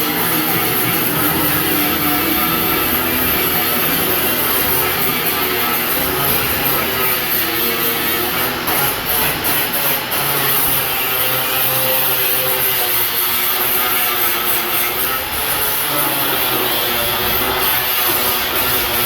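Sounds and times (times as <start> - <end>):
angle grinder grinding steel: 0.0 - 19.0.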